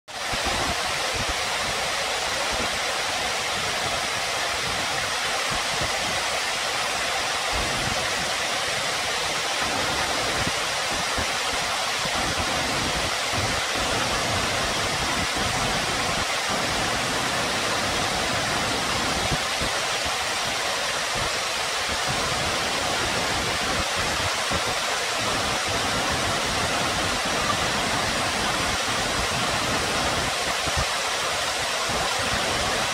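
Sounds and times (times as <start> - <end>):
waterfall splashing on rocks: 0.1 - 32.9.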